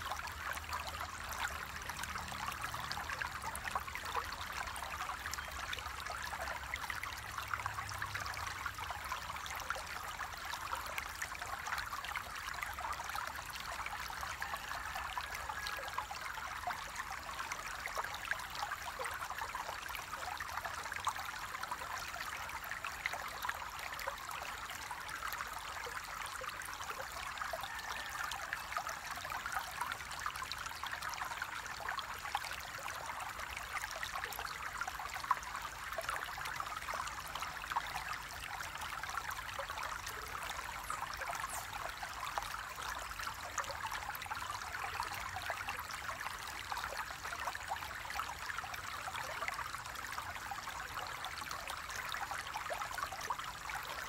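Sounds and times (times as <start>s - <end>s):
river water flowing: 0.0s - 54.0s
small splashes and trickles: 0.0s - 54.0s.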